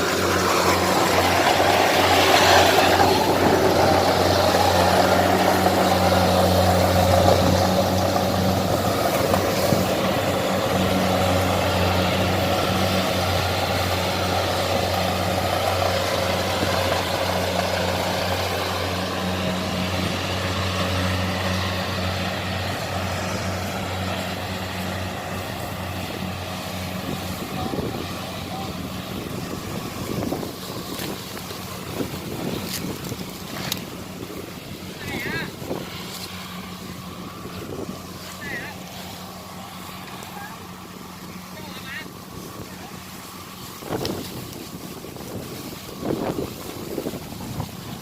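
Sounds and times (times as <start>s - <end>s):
combine harvester diesel engine: 0.0s - 48.0s.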